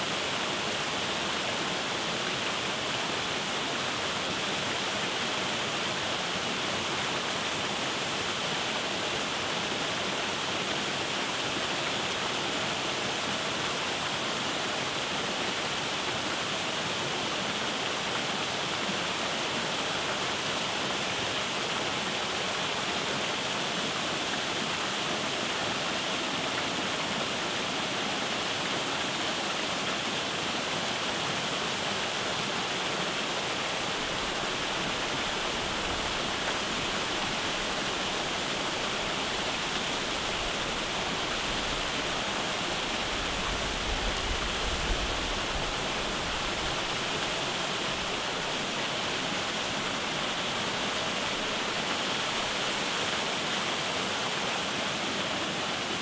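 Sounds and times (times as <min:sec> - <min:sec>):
small waterfall pouring: 0:00.0 - 0:56.0.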